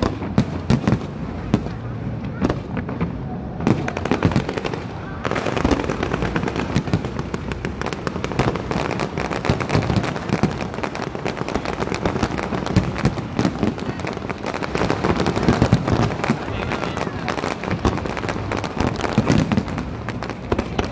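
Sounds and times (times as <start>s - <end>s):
fireworks bangs and crackles: 0.0s - 20.9s.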